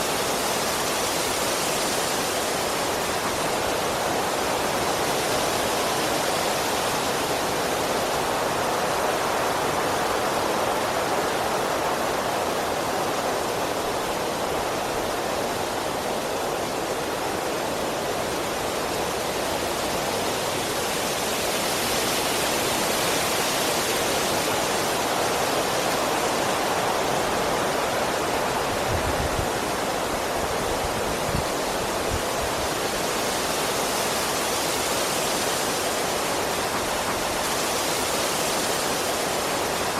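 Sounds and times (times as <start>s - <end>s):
wind blowing through trees: 0.0s - 39.9s.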